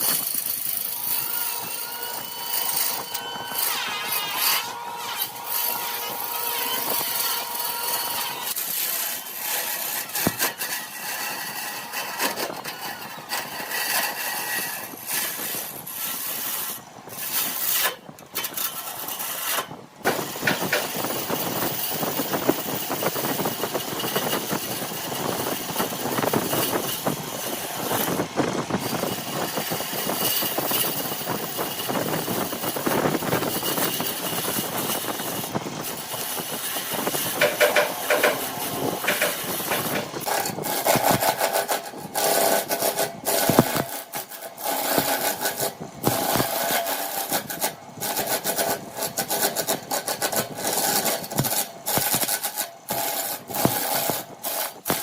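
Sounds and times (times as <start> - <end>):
woodturning lathe running: 0.0 - 55.0.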